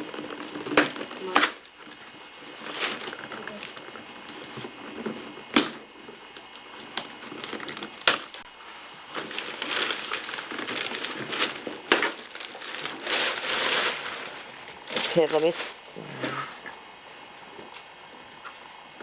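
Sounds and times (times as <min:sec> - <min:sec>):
wrapping paper crinkling: 0:00.0 - 0:05.4, 0:06.0 - 0:16.0.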